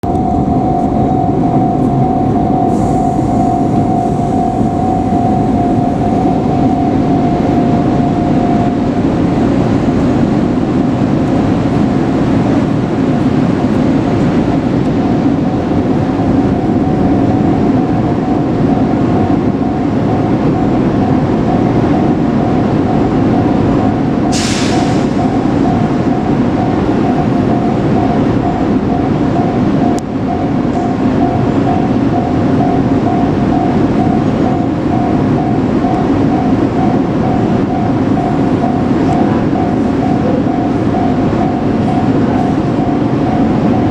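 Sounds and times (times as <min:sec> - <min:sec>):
high ringing tone: 0:00.0 - 0:10.6, 0:14.9 - 0:43.9
train noise: 0:00.0 - 0:43.9.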